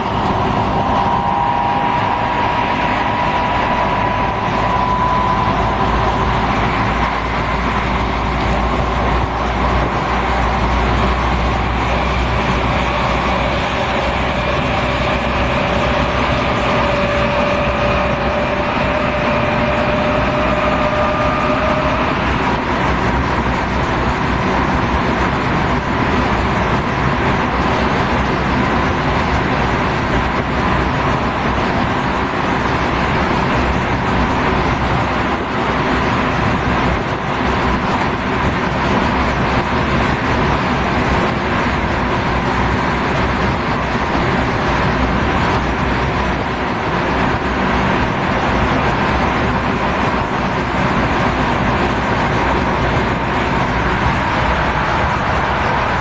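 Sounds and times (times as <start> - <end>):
moving vehicle running noise: 0.0 - 56.0.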